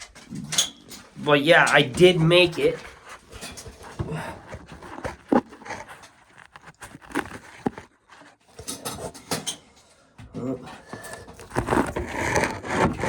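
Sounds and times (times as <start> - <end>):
dry corn cobs scraping and clicking: 0.0 - 9.4, 10.8 - 13.0.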